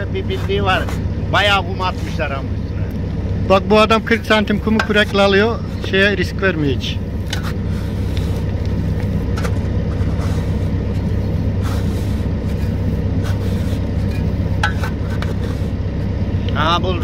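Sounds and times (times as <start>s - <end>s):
knocks and scrapes: 0.0s - 2.3s, 4.1s - 16.1s
diesel engine running: 0.0s - 17.0s.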